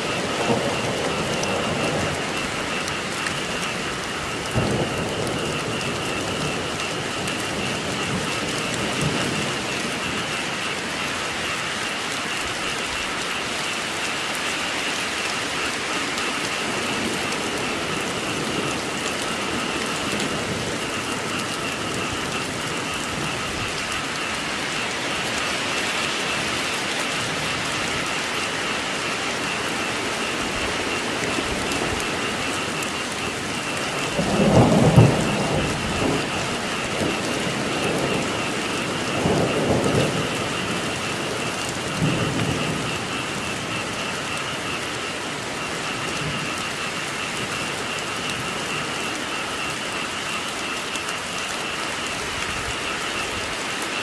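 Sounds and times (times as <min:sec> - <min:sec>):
frog chorus calling: 0:00.0 - 0:54.0
heavy rain: 0:00.0 - 0:54.0
thunder rumbling: 0:00.0 - 0:54.0.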